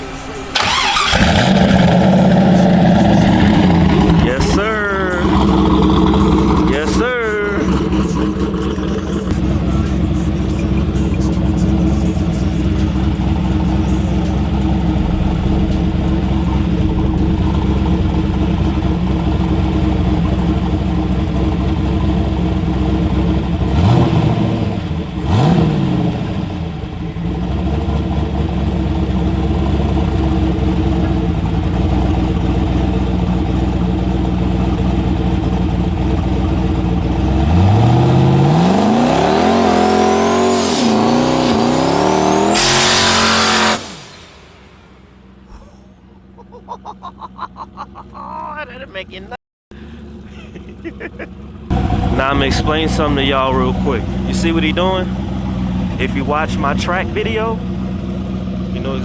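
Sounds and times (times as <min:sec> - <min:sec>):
car engine idling: 0:00.0 - 0:59.0
car engine revving: 0:00.0 - 0:59.0
engine throttle blips: 0:00.0 - 0:59.0.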